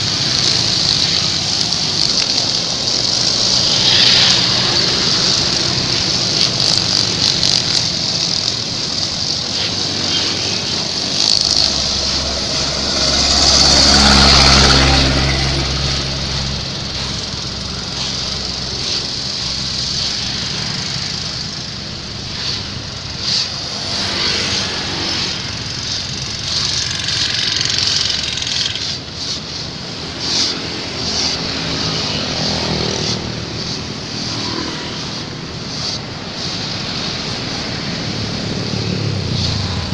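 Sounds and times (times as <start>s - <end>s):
brush cutters whining: 0.0s - 39.9s
road traffic passing: 0.0s - 39.9s.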